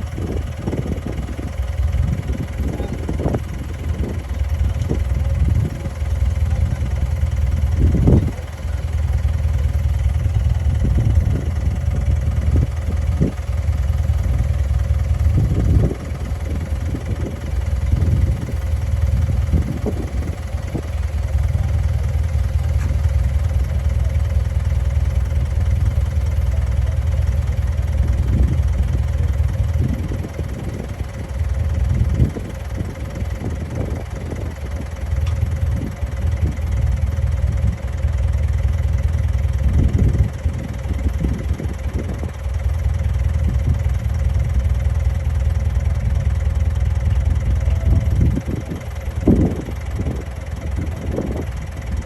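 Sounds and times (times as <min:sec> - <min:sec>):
bulldozer diesel engine rumbling: 0:00.0 - 0:52.0.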